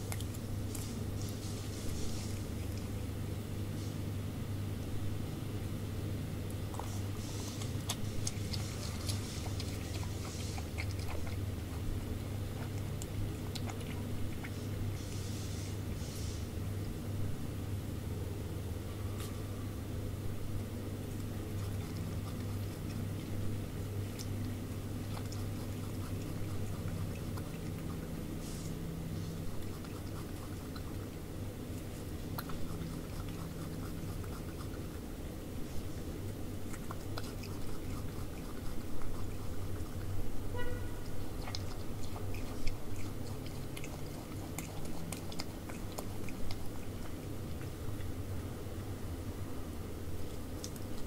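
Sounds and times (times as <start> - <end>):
animal chewing apple: 0.0 - 3.1, 6.5 - 17.0, 20.7 - 48.8, 50.1 - 51.0
steady low hum: 0.0 - 51.0.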